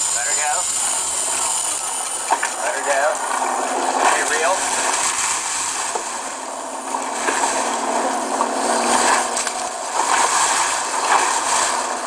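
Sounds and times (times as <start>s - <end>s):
steady rushing water: 0.0s - 12.0s
water splashing: 0.0s - 12.0s.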